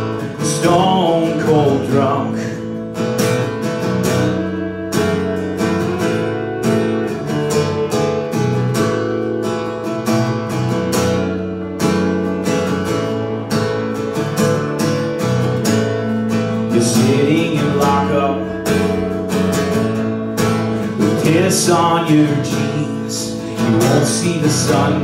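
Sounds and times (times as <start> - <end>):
acoustic guitar strumming chords: 0.0 - 25.0
electric guitar playing: 0.0 - 25.0.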